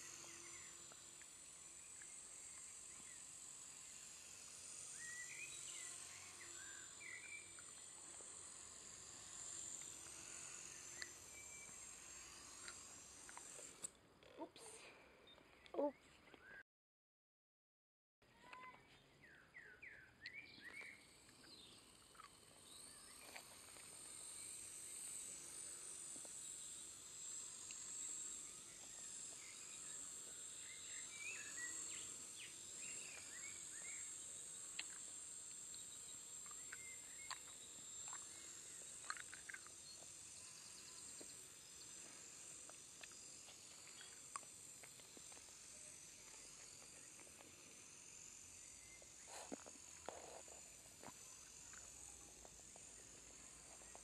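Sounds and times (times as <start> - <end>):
model helicopter rotor whine: 0.0 - 15.0, 18.4 - 54.0.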